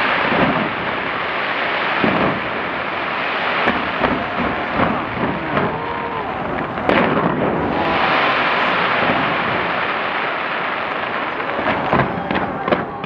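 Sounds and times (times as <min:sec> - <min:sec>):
fireworks bangs and crackle: 0:00.0 - 0:13.0.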